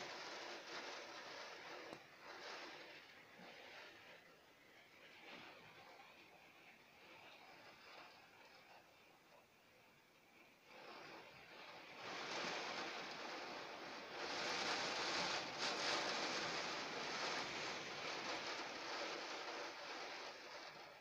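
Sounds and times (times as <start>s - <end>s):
rain hissing: 0.0s - 21.0s.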